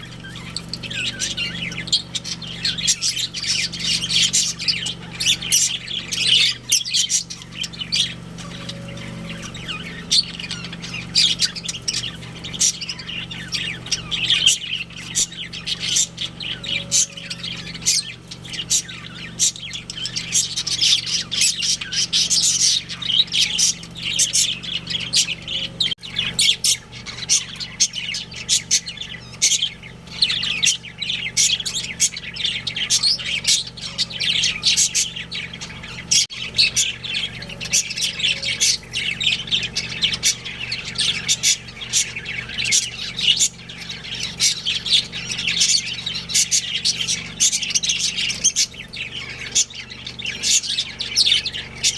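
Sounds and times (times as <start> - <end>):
budgerigars chattering: 0.0 - 51.9.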